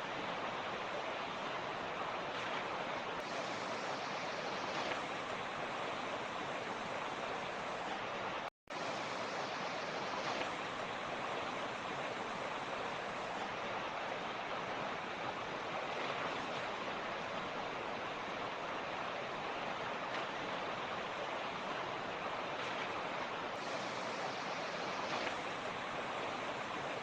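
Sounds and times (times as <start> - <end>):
mountain stream flowing: 0.0 - 27.0.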